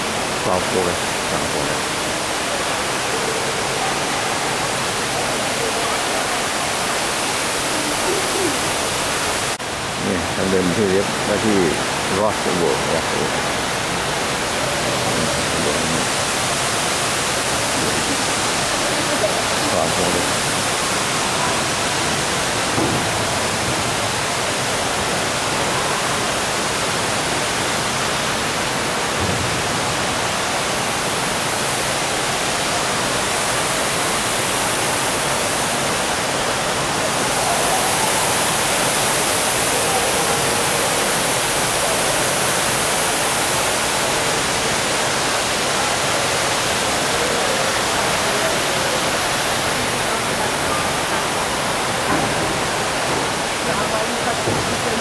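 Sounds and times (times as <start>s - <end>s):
faint voices: 0.0s - 27.8s, 32.1s - 55.0s
waterfall rushing: 0.0s - 55.0s.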